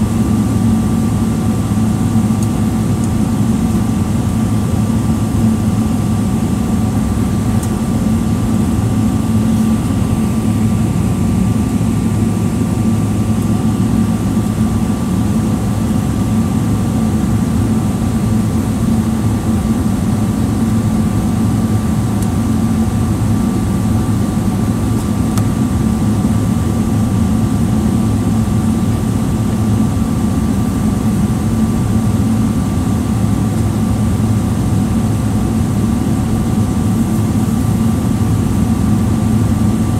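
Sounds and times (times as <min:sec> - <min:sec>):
aircraft cabin hum: 0:00.0 - 0:39.9
faint steady whines: 0:00.0 - 0:39.9
jet engines idling: 0:00.0 - 0:39.9.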